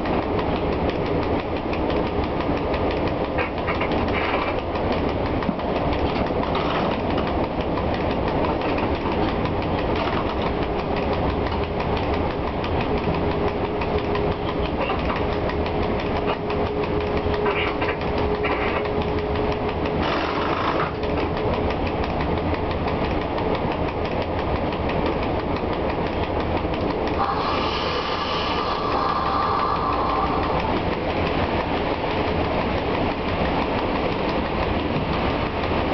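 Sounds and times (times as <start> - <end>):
train wheels clattering on rails: 0.0 - 35.9.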